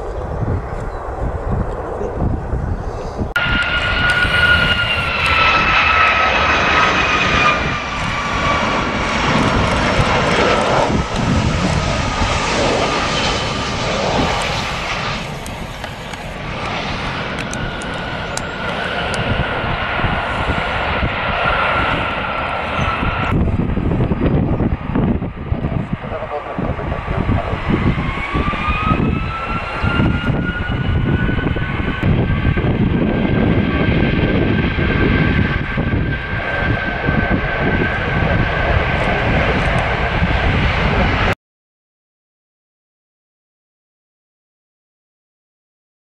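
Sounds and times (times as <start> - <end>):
high jet whine: 0.0 - 41.4
jet engine roar landing: 0.0 - 41.4.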